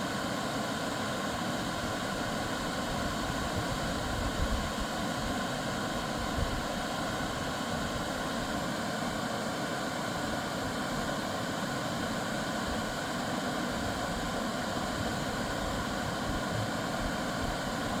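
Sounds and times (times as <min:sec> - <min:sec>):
small waterfall rushing over rock: 0:00.0 - 0:18.0.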